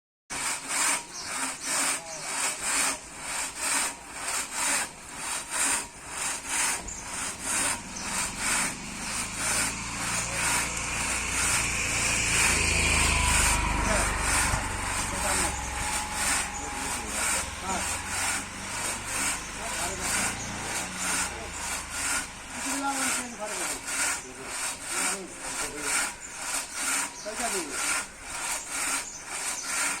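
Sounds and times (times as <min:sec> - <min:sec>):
saw cutting timber: 0:00.3 - 0:30.0.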